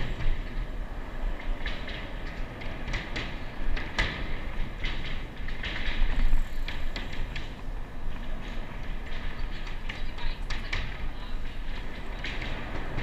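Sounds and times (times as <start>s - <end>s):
wind rumble: 0.0s - 13.0s.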